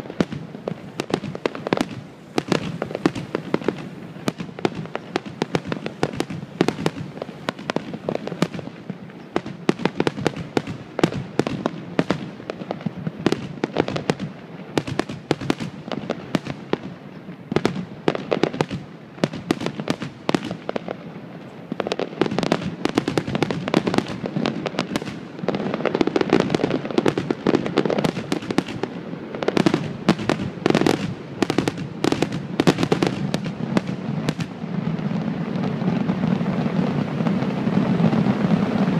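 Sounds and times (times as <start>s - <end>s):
fireworks popping and crackling: 0.0s - 38.9s.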